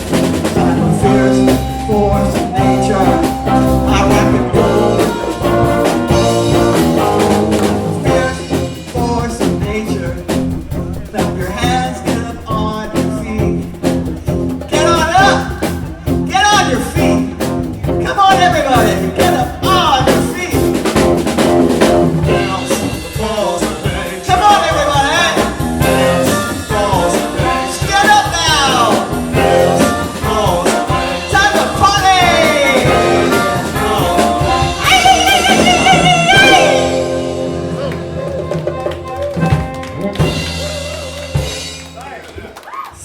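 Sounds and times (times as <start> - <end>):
sliding lead guitar lines: 0.0 - 42.0
blues band playing: 0.0 - 42.8
drums: 0.0 - 43.0.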